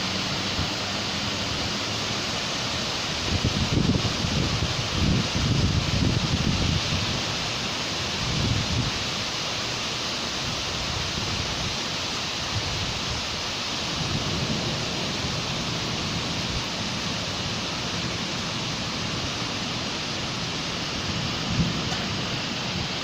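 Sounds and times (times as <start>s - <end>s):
traffic rumble: 0.0s - 8.8s, 9.6s - 23.0s
steady rain hiss: 0.0s - 23.0s.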